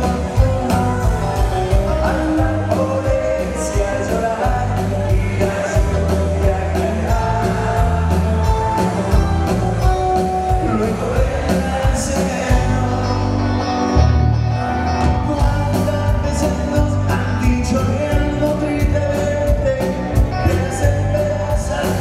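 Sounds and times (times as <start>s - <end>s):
bass: 0.0s - 22.0s
electric guitar: 0.0s - 22.0s
keyboard: 0.0s - 22.0s.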